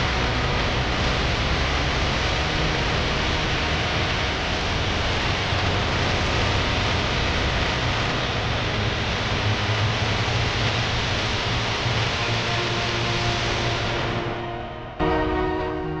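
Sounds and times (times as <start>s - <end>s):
loud rushing noise: 0.0s - 16.0s
low hum: 0.0s - 16.0s.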